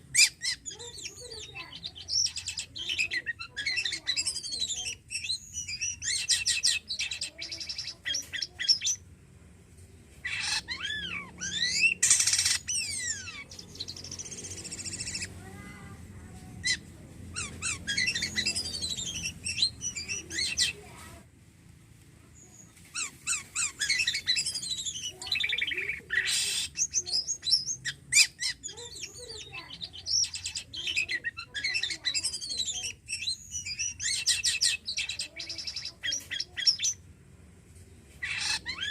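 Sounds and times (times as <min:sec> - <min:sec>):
starling singing: 0:00.0 - 0:09.0, 0:10.2 - 0:21.1, 0:22.4 - 0:37.0, 0:38.2 - 0:38.9.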